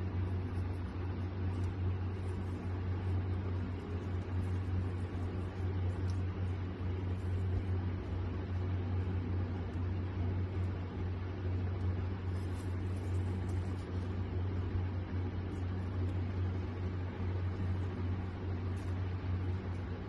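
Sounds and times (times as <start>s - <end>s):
low machine hum with hiss: 0.0s - 20.0s.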